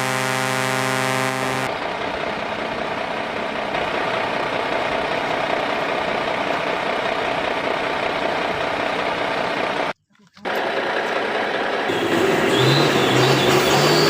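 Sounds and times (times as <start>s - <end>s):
toy truck engine-like noise: 0.0s - 14.0s.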